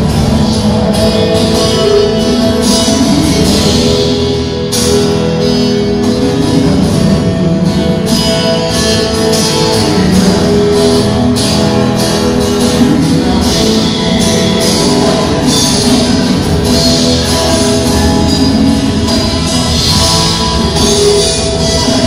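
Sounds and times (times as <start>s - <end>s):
bass guitar: 0.0s - 22.0s
drums: 0.0s - 22.0s
electric guitars: 0.0s - 22.0s.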